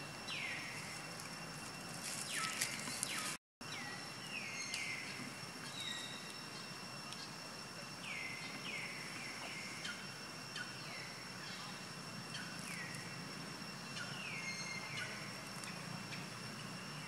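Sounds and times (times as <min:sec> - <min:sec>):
insects humming: 0:00.0 - 0:17.0.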